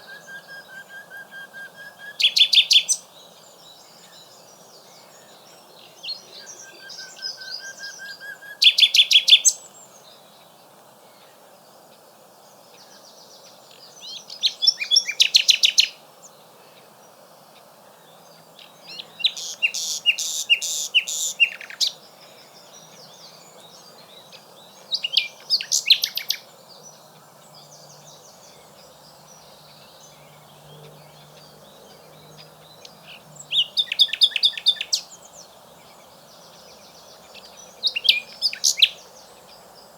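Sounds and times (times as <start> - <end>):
faint steady background noise: 0.0 - 39.9
nightingale singing trills: 0.0 - 39.9.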